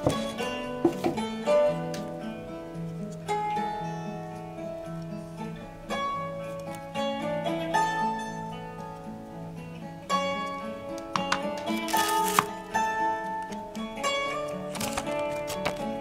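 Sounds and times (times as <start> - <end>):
plucked guitar melody: 0.0 - 16.0.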